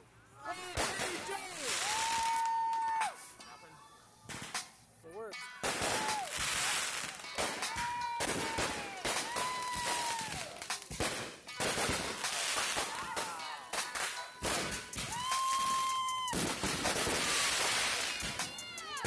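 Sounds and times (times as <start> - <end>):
fireworks bursting and crackling: 0.5 - 3.3, 4.3 - 4.9, 5.5 - 19.0.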